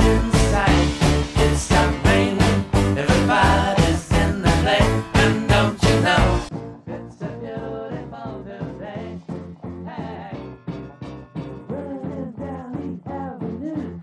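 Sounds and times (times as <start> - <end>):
background music with steady beat: 0.0 - 11.7.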